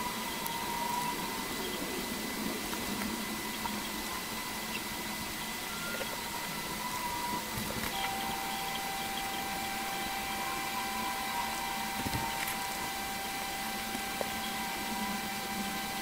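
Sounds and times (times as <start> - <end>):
electrical hiss: 0.0 - 16.0
faint high whine tones: 0.0 - 16.0.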